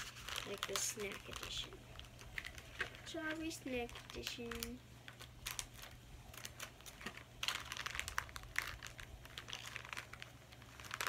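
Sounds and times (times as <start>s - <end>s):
plastic packet crinkling and tearing: 0.0s - 11.0s.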